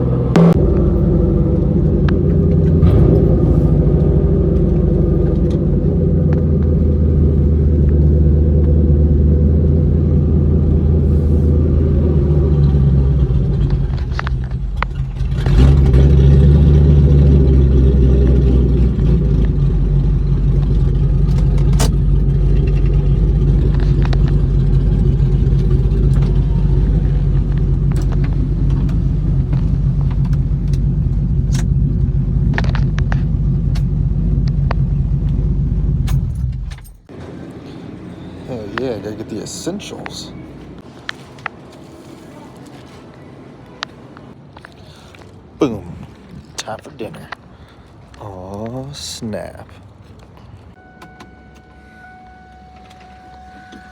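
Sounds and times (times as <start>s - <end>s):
car engine and exhaust driving: 0.0s - 53.9s.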